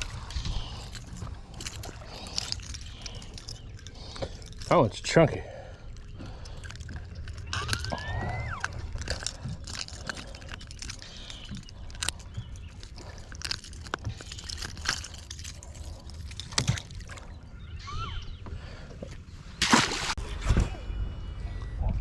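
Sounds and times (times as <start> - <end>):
water lapping around boat: 0.0 - 20.6.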